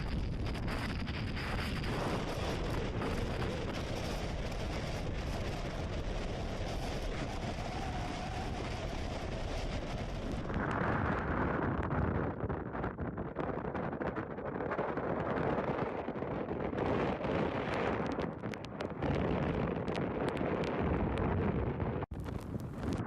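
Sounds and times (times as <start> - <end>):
storm wind buffeting microphone: 0.0 - 23.0.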